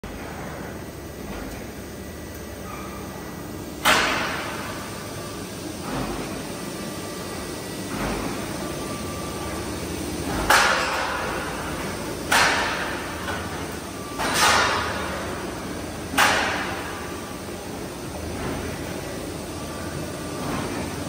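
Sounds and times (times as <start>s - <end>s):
roll forming machine running: 0.0s - 21.0s.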